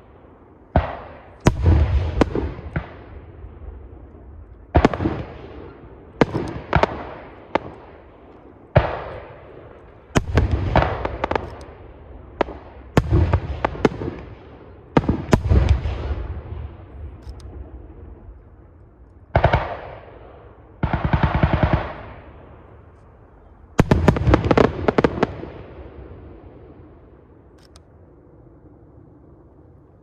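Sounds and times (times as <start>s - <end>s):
rumbling echo: 0.0s - 29.8s.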